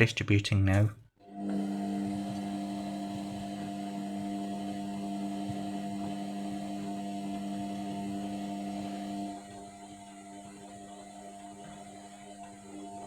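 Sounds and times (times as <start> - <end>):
washing machine motor humming: 1.2 - 13.0.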